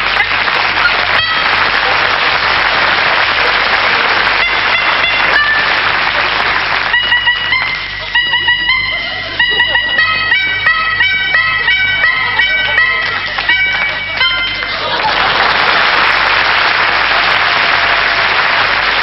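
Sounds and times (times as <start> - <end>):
reedy horn notes playing a tune: 0.0 - 15.3.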